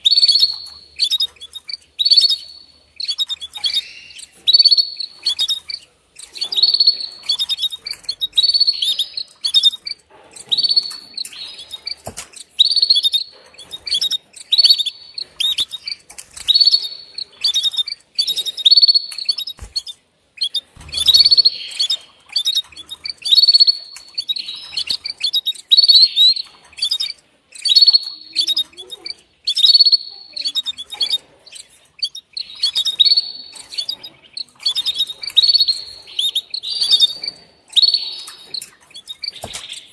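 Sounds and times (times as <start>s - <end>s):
canary chirping: 0.0s - 39.9s.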